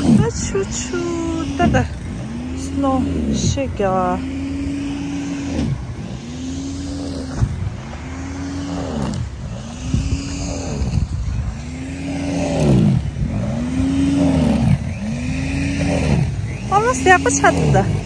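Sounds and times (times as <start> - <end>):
electric snow thrower running: 0.0 - 18.0.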